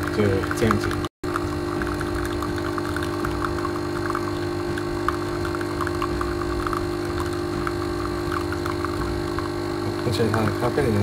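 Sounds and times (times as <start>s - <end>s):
coffee machine pump humming: 0.0s - 11.0s
coffee streaming into a cup: 0.0s - 11.0s.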